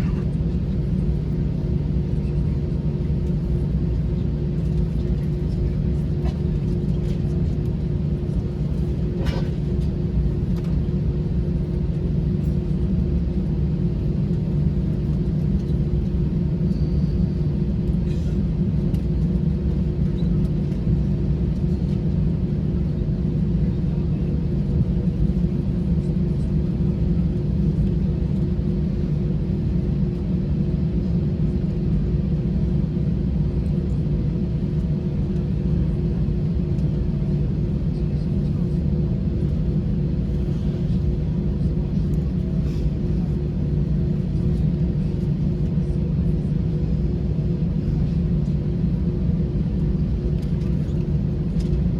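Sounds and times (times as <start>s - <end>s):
aircraft cabin rumble and hum: 0.0s - 51.9s.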